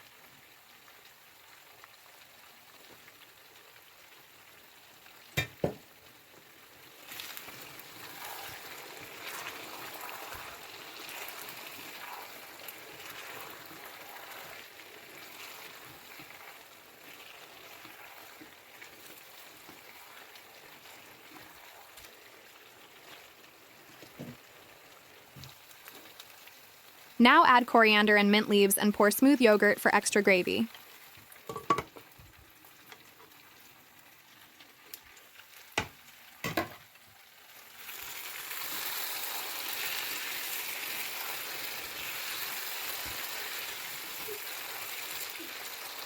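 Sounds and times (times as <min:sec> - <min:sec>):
curry sizzling in a pan: 0:00.0 - 0:46.0.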